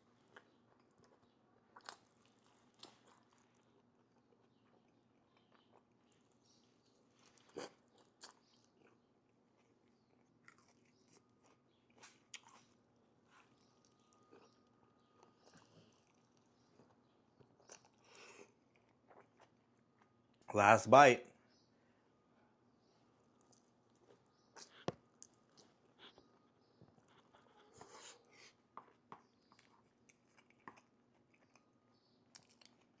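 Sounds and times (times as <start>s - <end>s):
faint chewing mouth smacks: 0.2s - 20.5s, 23.4s - 31.7s, 32.3s - 33.0s.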